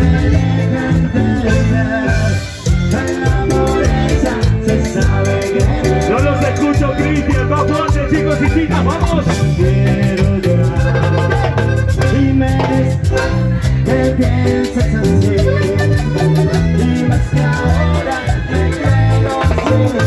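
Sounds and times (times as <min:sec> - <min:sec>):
live band playing latin dance music: 0:00.0 - 0:20.0.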